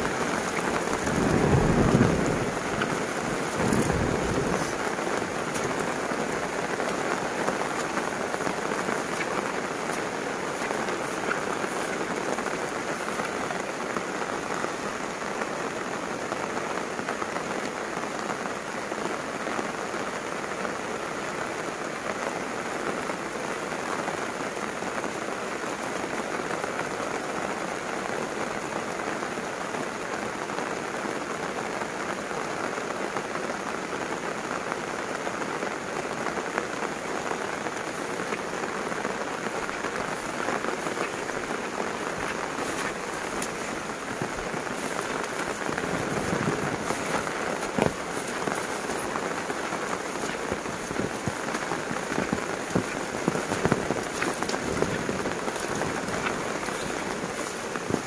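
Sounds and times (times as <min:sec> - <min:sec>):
rain on umbrella: 0:00.0 - 0:58.0
rain pattering on leaves: 0:00.0 - 0:58.0.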